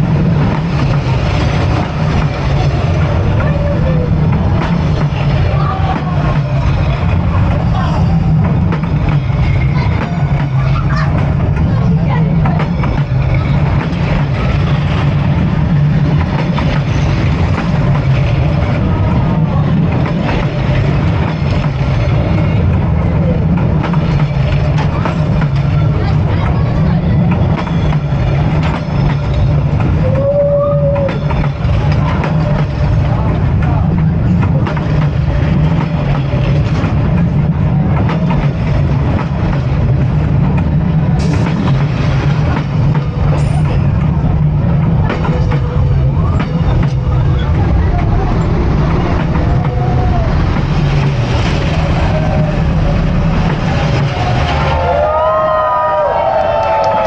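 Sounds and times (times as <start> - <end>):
train engine rumble: 0.0 - 57.0
train wheels clicking and rattling: 0.0 - 57.0.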